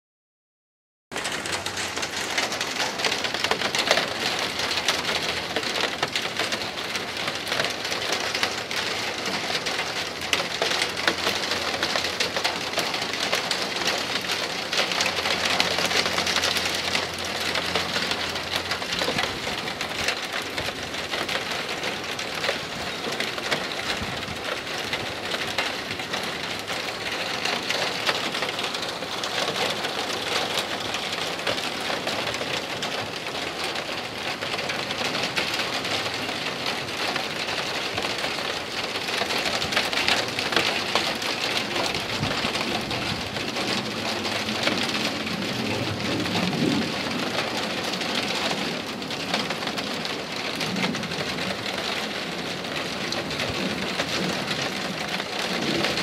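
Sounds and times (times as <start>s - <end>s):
steady rain: 1.1s - 56.0s.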